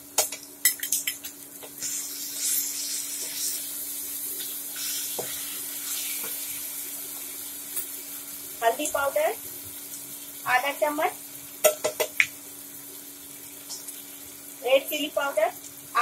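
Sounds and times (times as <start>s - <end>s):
peas sizzling in hot oil: 0.1s - 16.0s.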